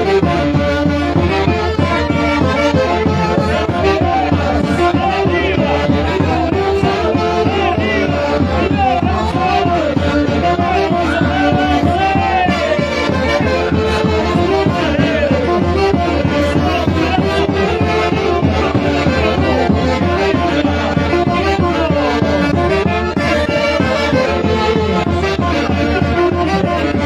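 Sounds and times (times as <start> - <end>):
orchestra playing a tune: 0.0 - 27.0.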